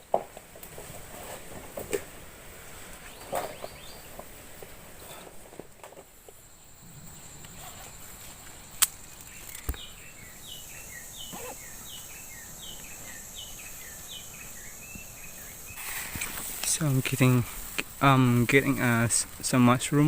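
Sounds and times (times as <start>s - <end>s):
insects hissing: 0.0s - 20.0s.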